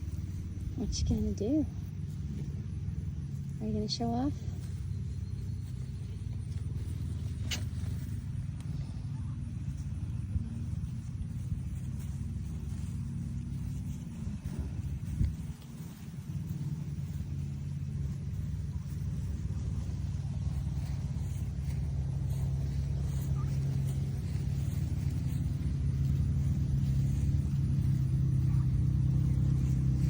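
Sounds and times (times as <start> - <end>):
low motor hum: 0.0 - 30.0.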